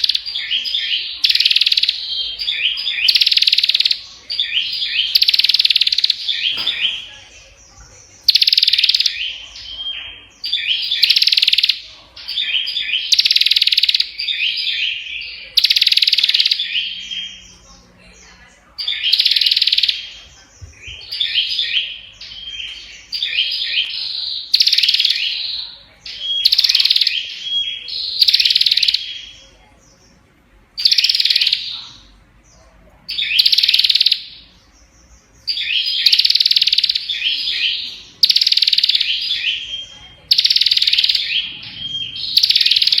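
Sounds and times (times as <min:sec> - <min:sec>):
bird chattering song: 0:00.0 - 0:43.0.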